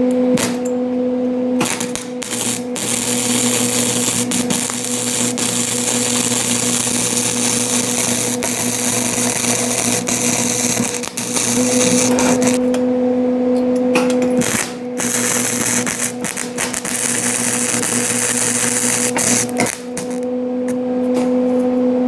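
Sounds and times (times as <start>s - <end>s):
arc welding crackling buzz: 0.0s - 0.8s, 1.5s - 12.8s, 14.1s - 21.4s
steady hum: 0.0s - 22.0s.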